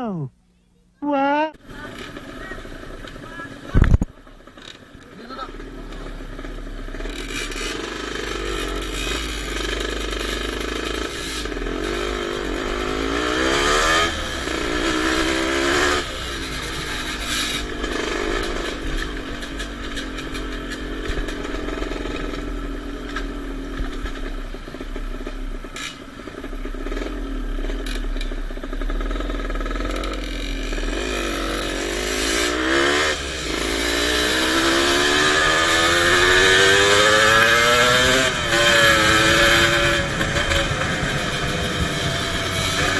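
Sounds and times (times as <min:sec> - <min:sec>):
motocross bike engines revving: 0:01.5 - 0:42.9.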